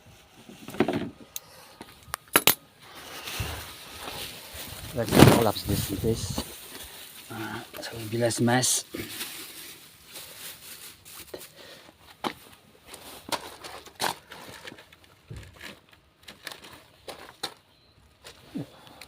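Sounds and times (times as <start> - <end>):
rustling: 2.8 - 18.8.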